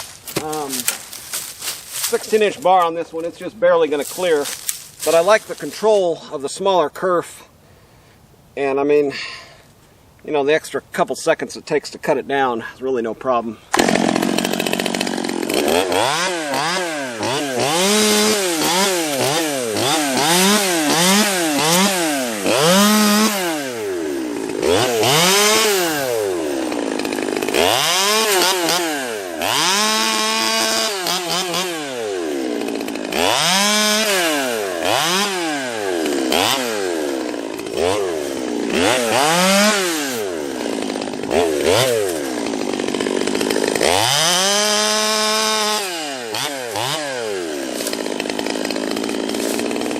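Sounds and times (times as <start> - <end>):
chainsaw cutting into tree trunk: 0.0 - 3.3, 3.9 - 5.8, 13.7 - 49.9.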